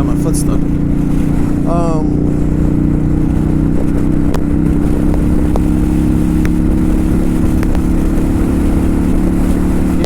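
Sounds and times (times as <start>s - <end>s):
motorcycle engine cruising: 0.0s - 10.0s
road and wind noise: 0.0s - 10.0s.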